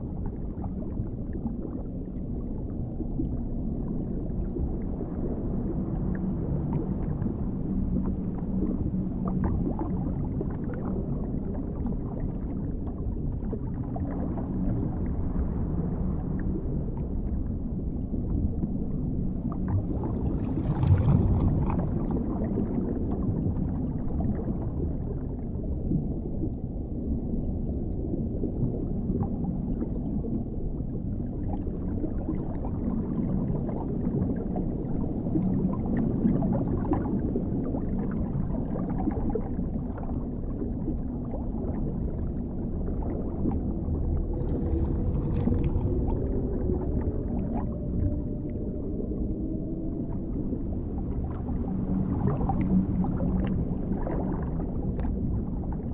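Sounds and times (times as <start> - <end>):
muffled underwater rumble: 0.0 - 55.9.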